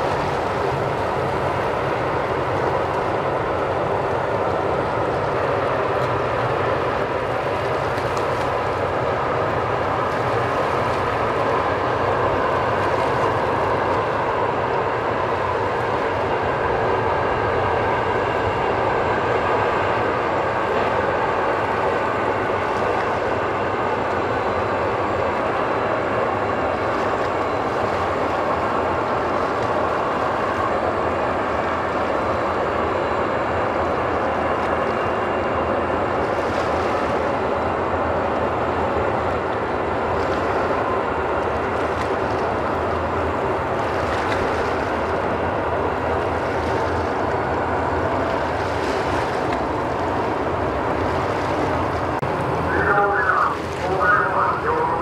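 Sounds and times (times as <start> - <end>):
ship machinery rushing: 0.0 - 55.0.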